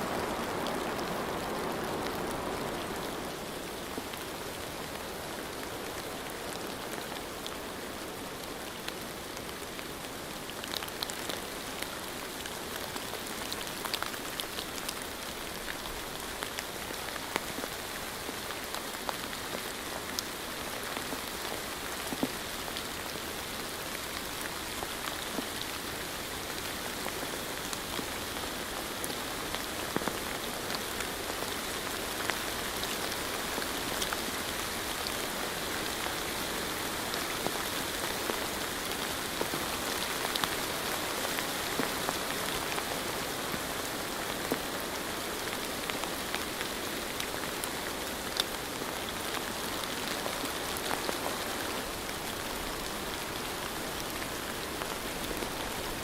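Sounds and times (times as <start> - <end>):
steady rain: 0.0 - 56.0
raindrops ticking on surface: 0.1 - 56.0.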